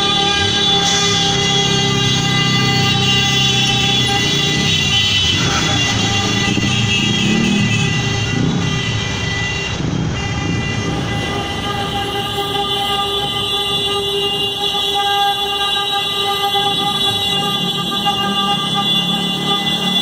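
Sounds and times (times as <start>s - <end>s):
car horns honking: 0.0s - 20.0s.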